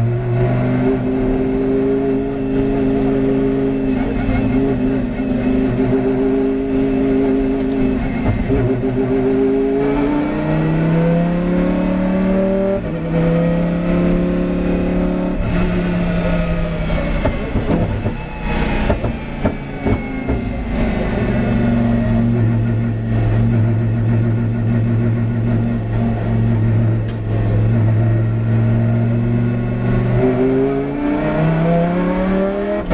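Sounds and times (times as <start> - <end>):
race car engine revving: 0.0 - 32.9.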